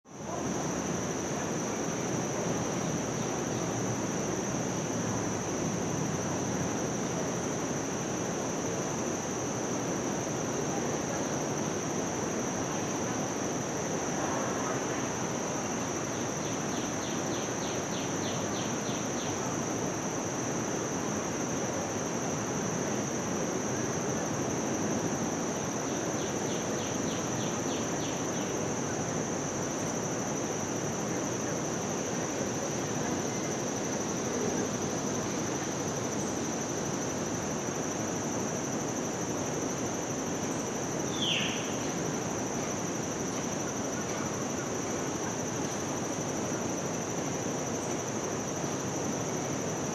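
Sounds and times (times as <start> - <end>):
high insect drone: 0.1 - 49.9.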